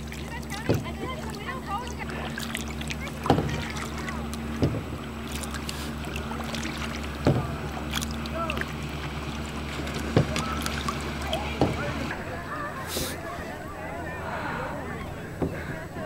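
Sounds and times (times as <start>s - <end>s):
paddle splashing in water: 0.0s - 16.0s
steady low hum: 0.0s - 16.0s.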